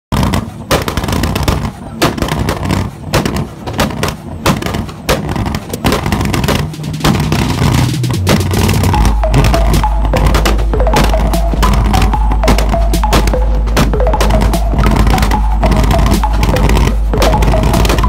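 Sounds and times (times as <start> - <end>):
exhaust bangs and pops: 0.1 - 18.0.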